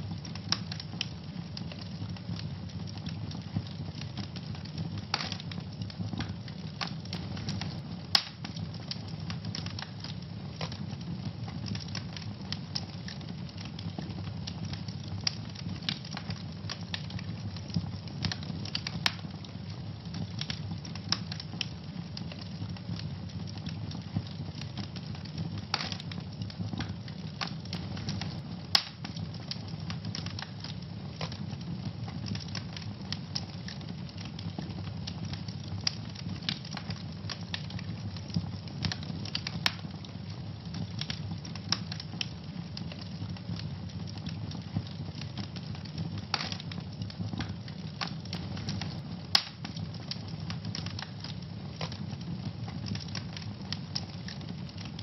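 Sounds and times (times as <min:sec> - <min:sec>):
fire crackling in fireplace: 0:00.0 - 0:55.0.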